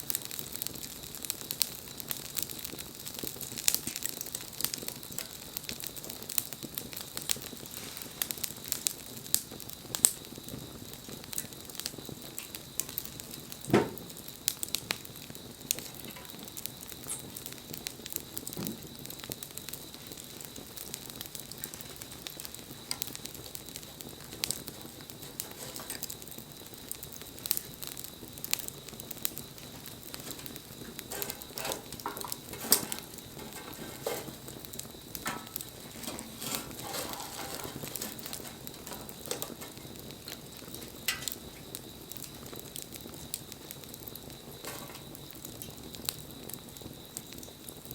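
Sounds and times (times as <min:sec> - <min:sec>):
fire hiss: 0:00.0 - 0:47.9
wood fire crackling: 0:00.0 - 0:47.9.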